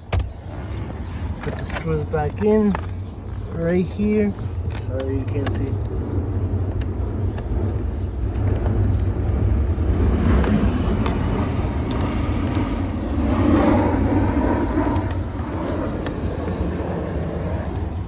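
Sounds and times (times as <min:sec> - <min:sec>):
low vehicle engine rumble: 0:00.0 - 0:18.0.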